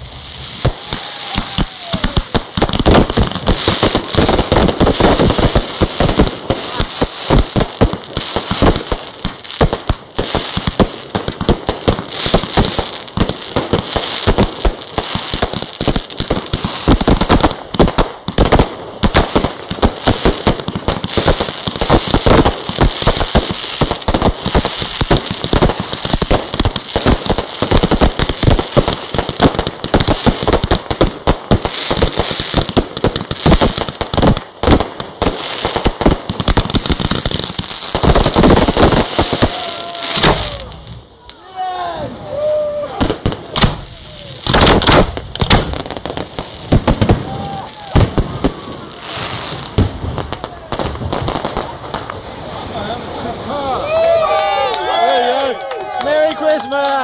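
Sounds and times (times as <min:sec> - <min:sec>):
crackling fireworks stars: 0:00.0 - 0:57.0.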